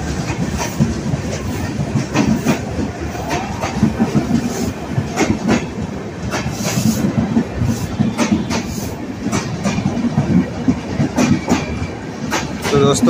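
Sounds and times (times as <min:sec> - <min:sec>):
train coaches rumbling: 0:00.0 - 0:13.0
wheels clacking over rail joints: 0:00.0 - 0:13.0.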